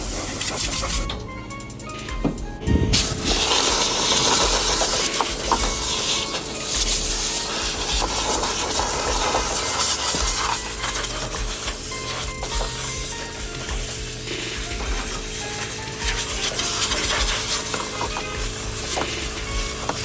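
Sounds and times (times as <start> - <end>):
rushing air hiss: 0.0 - 20.0.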